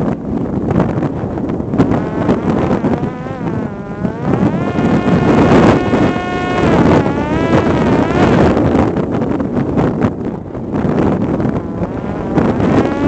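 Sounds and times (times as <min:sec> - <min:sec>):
drone motor and propeller buzzing: 0:00.0 - 0:13.0
wind noise on microphone: 0:00.0 - 0:13.0.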